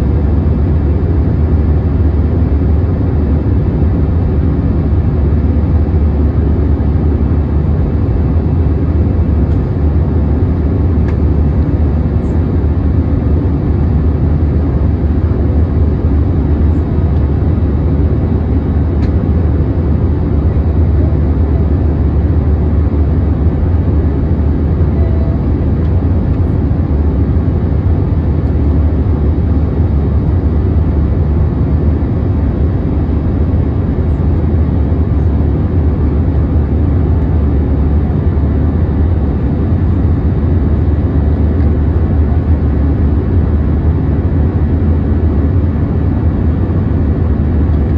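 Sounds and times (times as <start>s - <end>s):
jet engine rumble in cabin: 0.0s - 47.9s.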